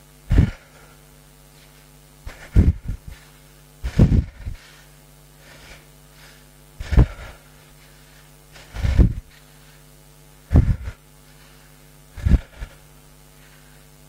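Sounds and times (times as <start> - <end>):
steady hum: 0.0 - 14.0
man breathing heavily: 0.3 - 14.0.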